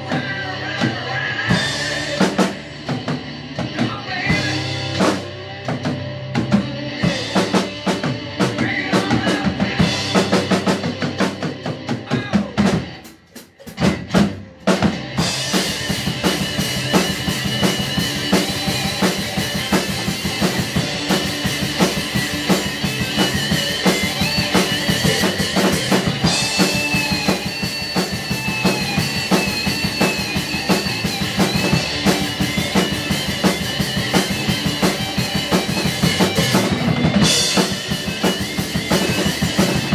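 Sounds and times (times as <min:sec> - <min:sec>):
drum kit playing: 0:00.0 - 0:39.9
hard rock music: 0:00.0 - 0:39.9.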